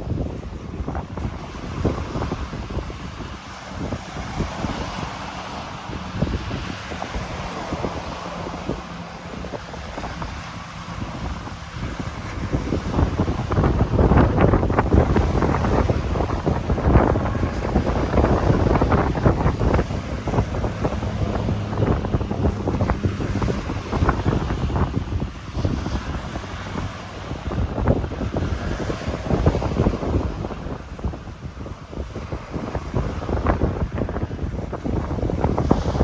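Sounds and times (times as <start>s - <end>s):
gusty wind buffeting microphone: 0.0s - 36.0s
ocean waves breaking: 0.0s - 36.0s.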